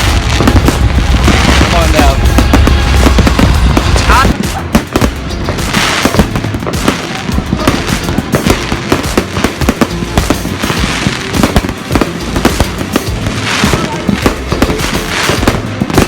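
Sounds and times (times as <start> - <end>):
fireworks crackling hiss: 0.0 - 16.0
fireworks popping and banging: 0.0 - 16.0.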